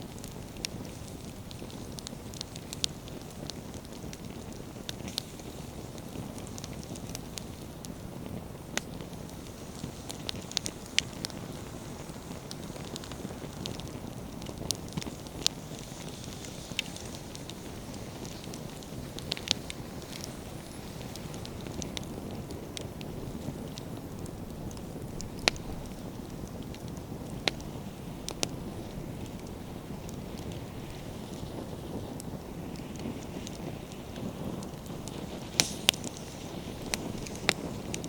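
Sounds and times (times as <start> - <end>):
campfire burning and crackling: 0.0 - 38.0
firewood popping: 0.0 - 38.0.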